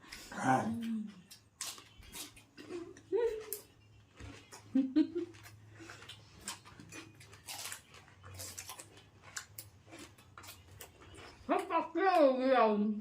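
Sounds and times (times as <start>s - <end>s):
person chewing fruit: 0.0s - 11.8s.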